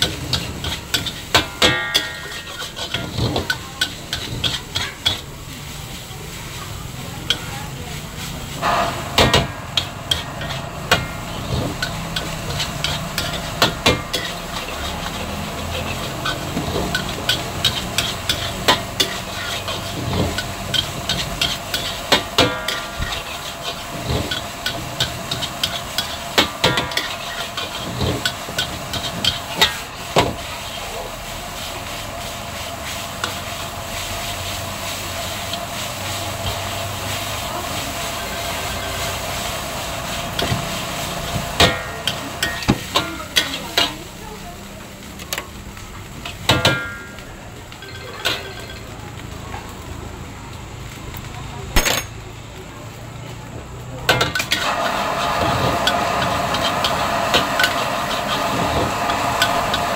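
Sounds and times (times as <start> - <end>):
metal spatula scraping a wok: 0.0 - 44.4, 54.1 - 59.9.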